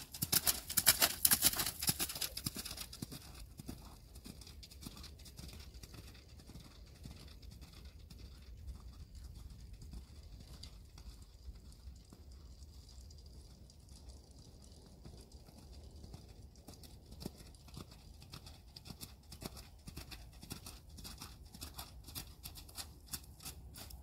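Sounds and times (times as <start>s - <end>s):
horse hoofbeats trotting: 0.0s - 24.0s.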